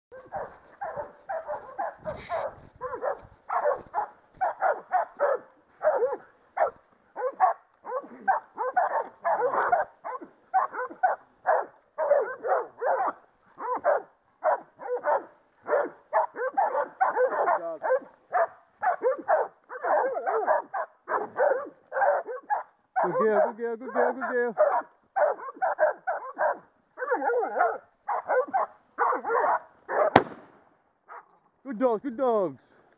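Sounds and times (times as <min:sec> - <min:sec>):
dogs barking: 0:00.1 - 0:30.2, 0:31.1 - 0:31.4.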